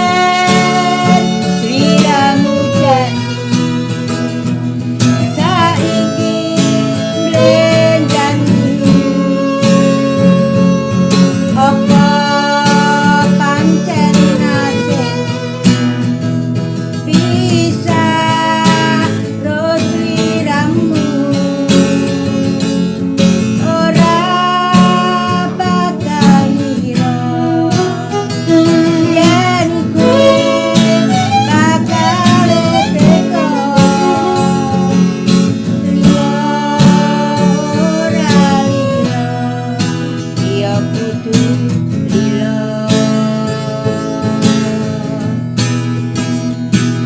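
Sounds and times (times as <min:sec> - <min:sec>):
guitar-led instrumental music: 0:00.0 - 0:47.0.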